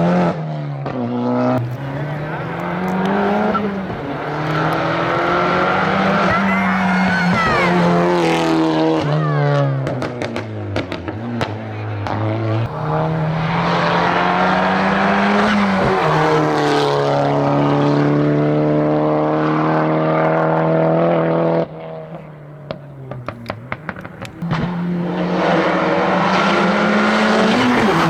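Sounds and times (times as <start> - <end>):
race car engine accelerating: 1.6 - 9.1, 10.3 - 28.0.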